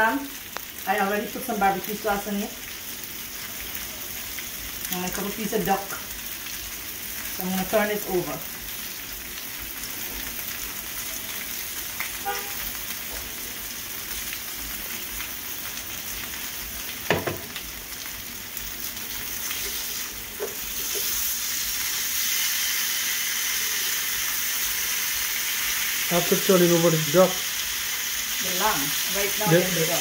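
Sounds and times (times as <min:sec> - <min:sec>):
meat sizzling on a grill: 0:00.0 - 0:30.0.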